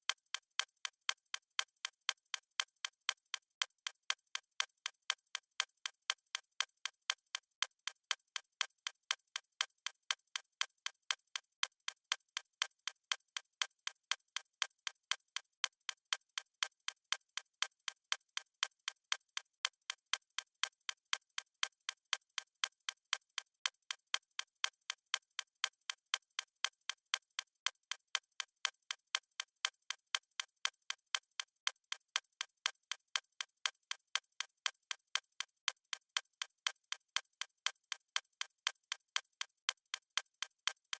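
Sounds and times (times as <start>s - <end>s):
stopwatch ticking: 0.0s - 40.9s.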